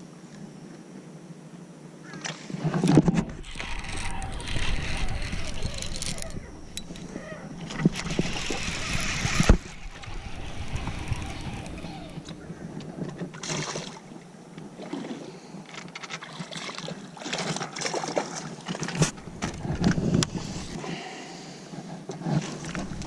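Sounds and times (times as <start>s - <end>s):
water: 0.0s - 23.0s
wind: 0.0s - 23.0s.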